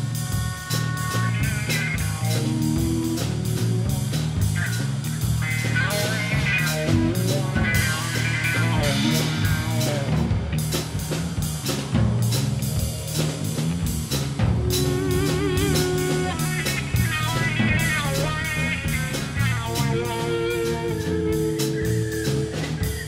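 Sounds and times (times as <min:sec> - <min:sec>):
bass: 0:00.0 - 0:23.0
drum kit: 0:00.0 - 0:23.0
electric guitar melody: 0:00.0 - 0:23.0
jazz band playing: 0:00.0 - 0:23.0.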